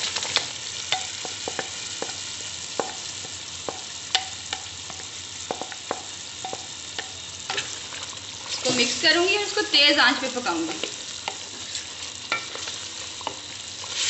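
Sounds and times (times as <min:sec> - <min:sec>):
frying sizzle with pops: 0:00.0 - 0:14.0.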